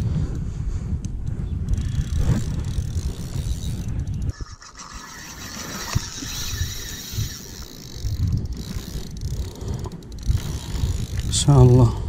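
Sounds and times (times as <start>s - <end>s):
wind on microphone: 0.0s - 12.0s
fishing reel drag ratcheting: 1.6s - 12.0s.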